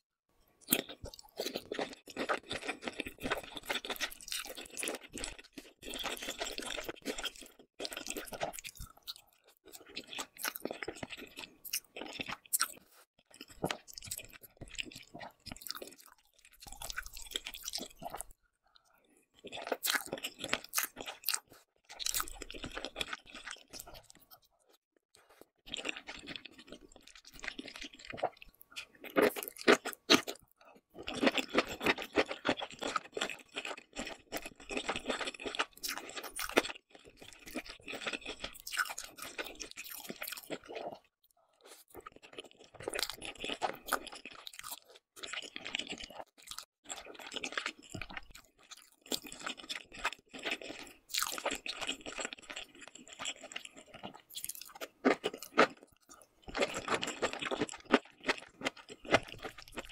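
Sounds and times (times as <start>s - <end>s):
wet chewing and biting: 0.7s - 18.4s, 19.4s - 59.9s.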